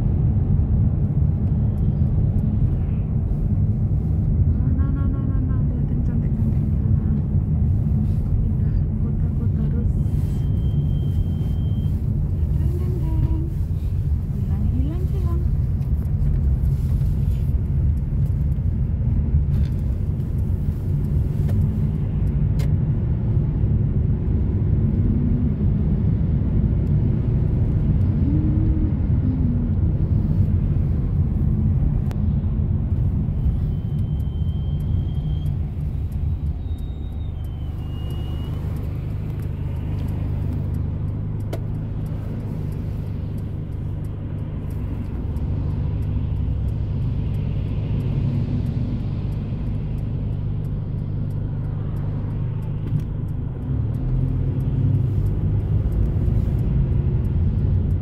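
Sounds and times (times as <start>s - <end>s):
car cabin engine and road noise: 0.0s - 58.0s.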